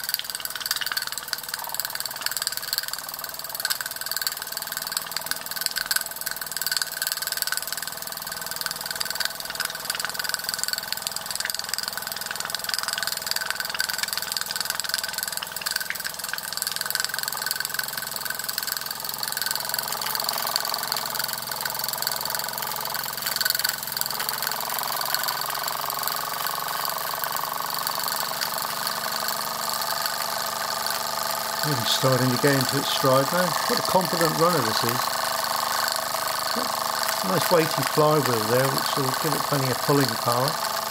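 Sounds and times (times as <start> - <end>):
toy steam engine ticking: 0.0 - 40.9.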